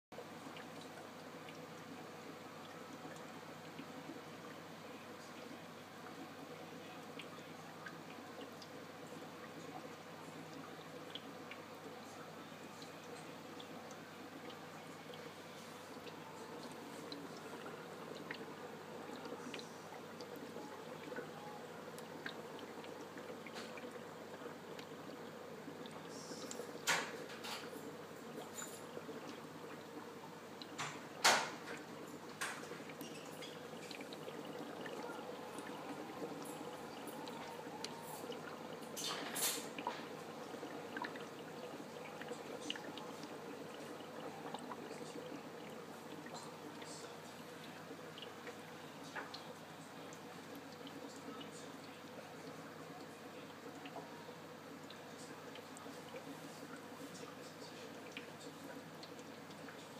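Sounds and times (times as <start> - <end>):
water bubbling and trickling: 0.2 - 59.9.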